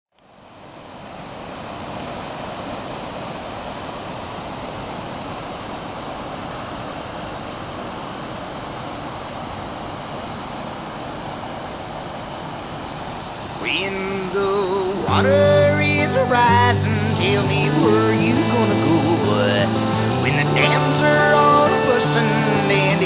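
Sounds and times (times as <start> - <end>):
waterfall roaring: 0.3 - 23.0.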